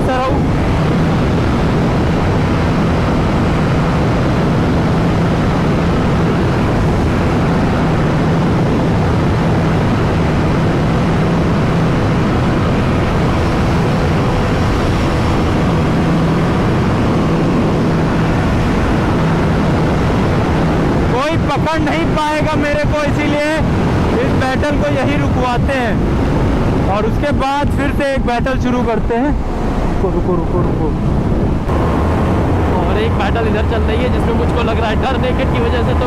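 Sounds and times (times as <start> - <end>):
wind rushing on microphone: 0.0 - 36.0.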